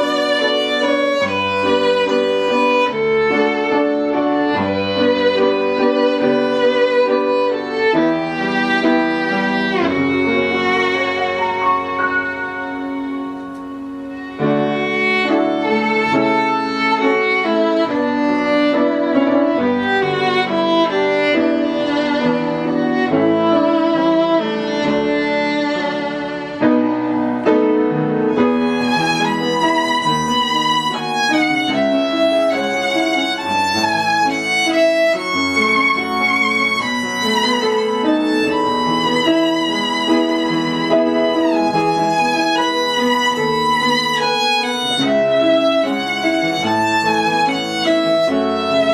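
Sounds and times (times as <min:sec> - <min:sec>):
violin melody with vibrato: 0:00.0 - 0:48.9.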